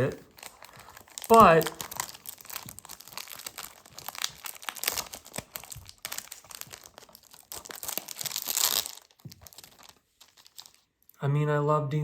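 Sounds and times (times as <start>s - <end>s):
plastic shrink-wrap crinkling and tearing: 0.0s - 11.2s.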